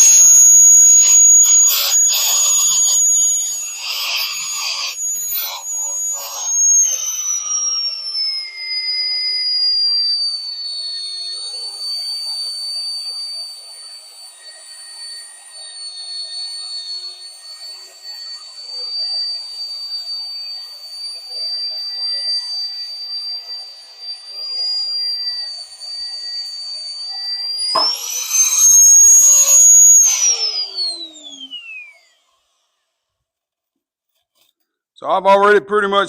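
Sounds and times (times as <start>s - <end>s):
electric drill whining in steel: 0.0s - 33.2s.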